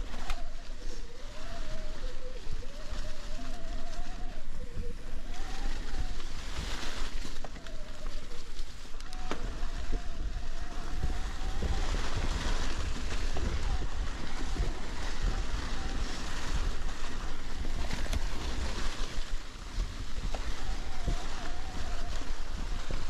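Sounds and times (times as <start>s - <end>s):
tyres rolling through dry leaves: 0.0s - 23.0s
wind buffeting on microphone: 0.0s - 23.0s.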